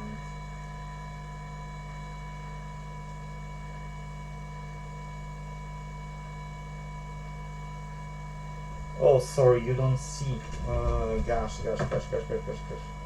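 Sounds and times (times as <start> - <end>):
electrical hum with tones: 0.0 - 13.0.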